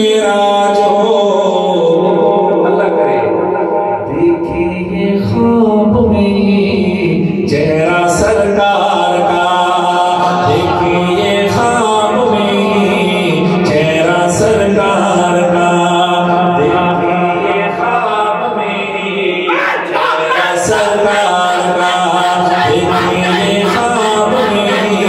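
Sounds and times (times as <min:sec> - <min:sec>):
man singing unaccompanied: 0:00.0 - 0:03.3, 0:04.0 - 0:25.0.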